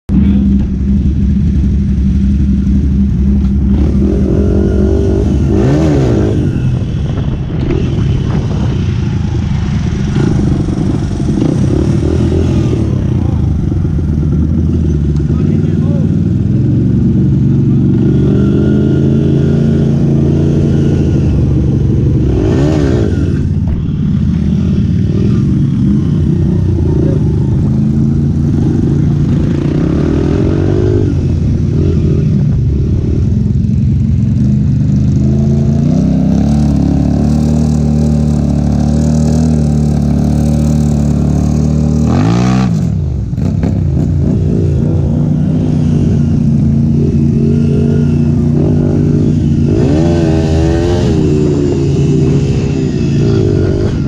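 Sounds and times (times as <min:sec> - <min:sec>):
off-road vehicle engine revving: 0:00.1 - 0:33.5, 0:34.1 - 0:54.0.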